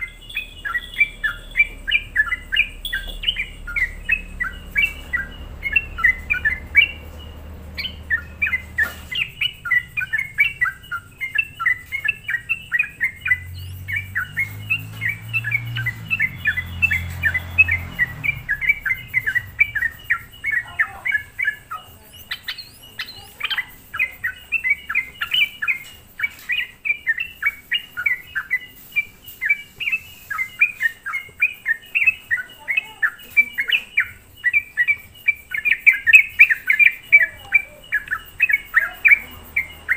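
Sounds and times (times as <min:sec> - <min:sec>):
bulbul chattering chirps: 0:00.0 - 0:39.9.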